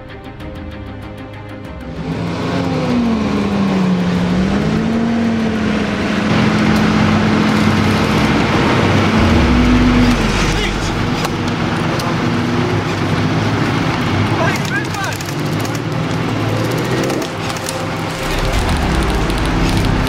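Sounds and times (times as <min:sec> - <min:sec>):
tracked vehicle engine: 0:01.8 - 0:20.0
clatter of tracks on ground: 0:02.8 - 0:20.0.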